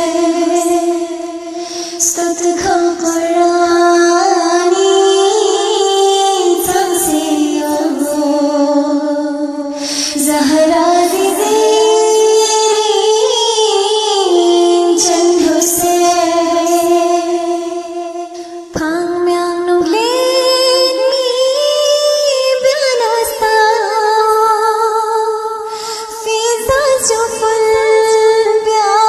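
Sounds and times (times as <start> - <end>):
woman singing: 0.0 - 29.0.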